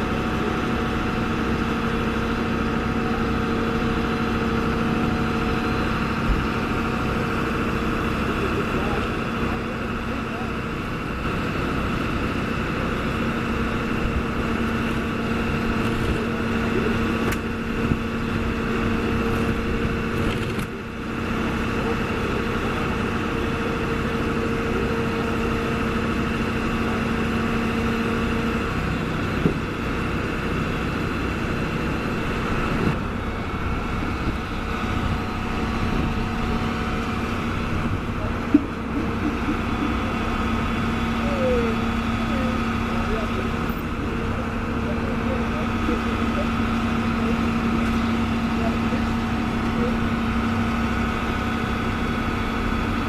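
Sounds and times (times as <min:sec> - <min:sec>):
fire truck engine idling: 0:00.0 - 0:53.0.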